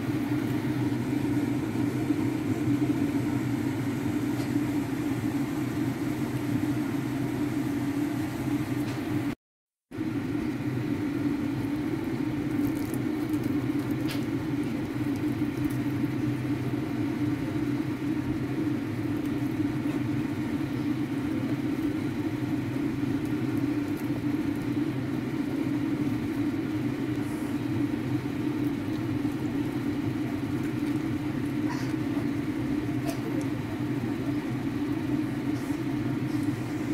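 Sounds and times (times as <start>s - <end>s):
low mechanical hum: 0.0s - 36.9s.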